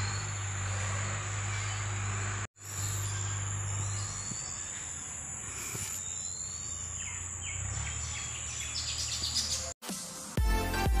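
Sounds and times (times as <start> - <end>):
bird chirps: 0.0 - 9.8.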